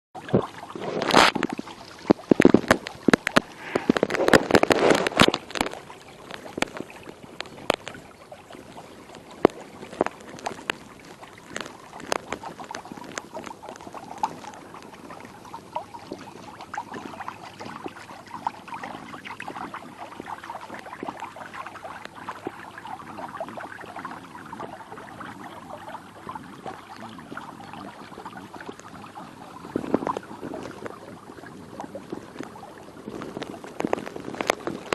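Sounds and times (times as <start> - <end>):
water splashing and sloshing: 0.2 - 34.9.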